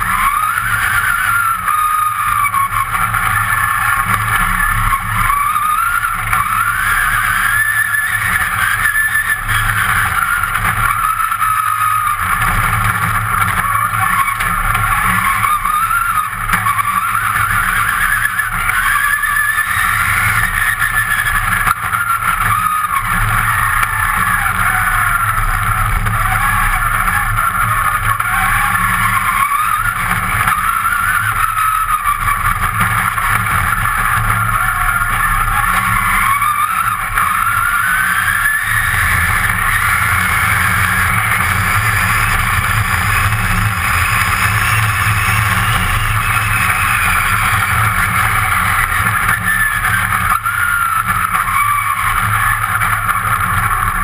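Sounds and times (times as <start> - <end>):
car engine revving and shifting gears: 0.0 - 54.0
tyres rumbling on loose gravel: 0.0 - 54.0.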